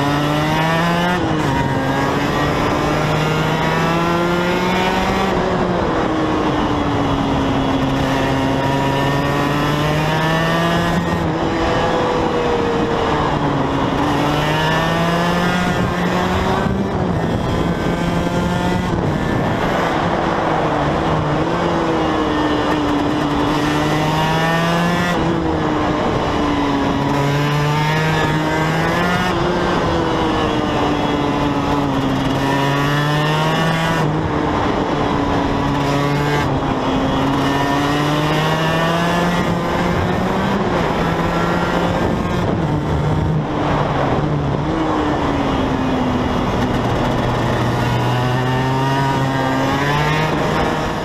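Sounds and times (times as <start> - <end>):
motorcycle engine revving: 0.0 - 51.0
wind rush: 0.0 - 51.0.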